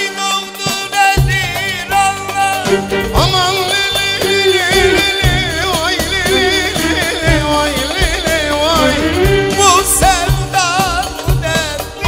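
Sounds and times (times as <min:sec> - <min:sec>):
steady drum beat: 0:00.1 - 0:12.0
folk band playing dance tune: 0:00.2 - 0:12.0.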